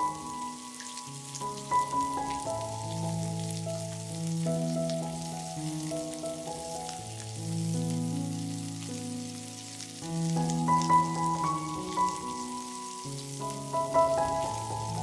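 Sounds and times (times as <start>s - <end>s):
background music of held notes: 0.0s - 15.0s
kebabs sizzling on grill pan: 0.0s - 15.0s.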